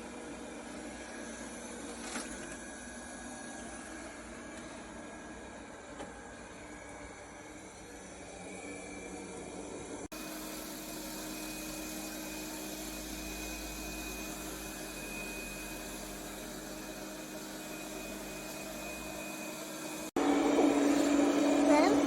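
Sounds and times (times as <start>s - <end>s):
robot vacuum cleaner whirring: 0.0s - 22.0s.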